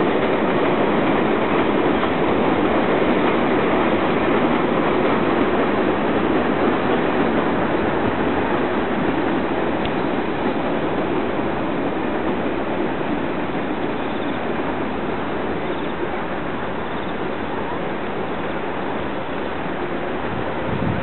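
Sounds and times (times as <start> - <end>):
distant freight train rumbling: 0.0 - 21.0.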